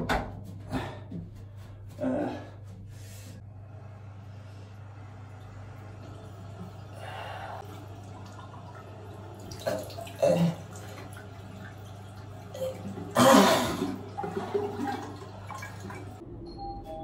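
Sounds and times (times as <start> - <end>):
steady low hum: 0.5 - 14.2.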